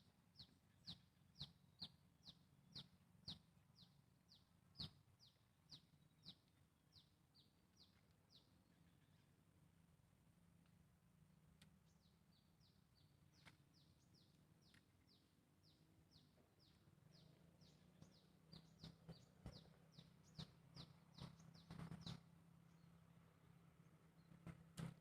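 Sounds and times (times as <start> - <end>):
bird chirping: 0.3 - 9.4, 11.7 - 23.2.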